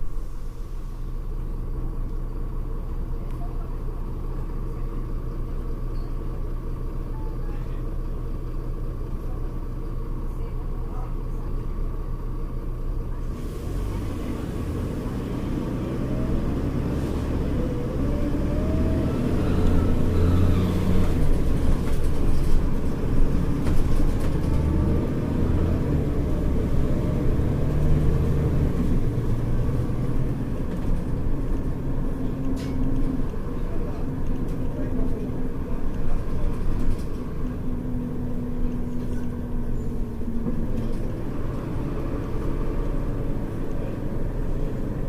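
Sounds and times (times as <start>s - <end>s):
bus diesel engine accelerating: 0.0s - 45.0s.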